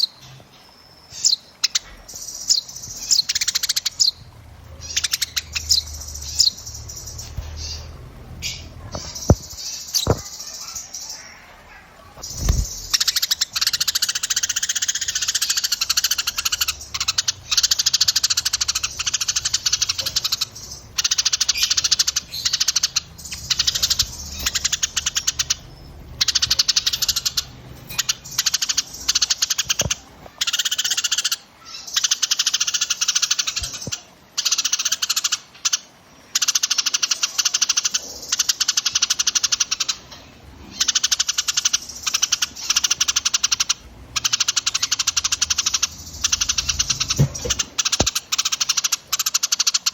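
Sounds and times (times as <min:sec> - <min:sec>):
songbirds chattering trills: 0:00.0 - 0:49.9.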